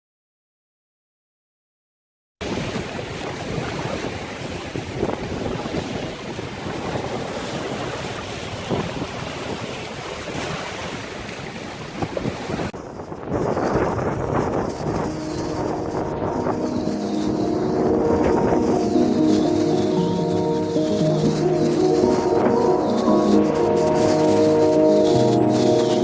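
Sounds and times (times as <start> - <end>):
storm wind gusting on microphone: 2.4 - 26.0
waves breaking on shore: 2.4 - 26.0.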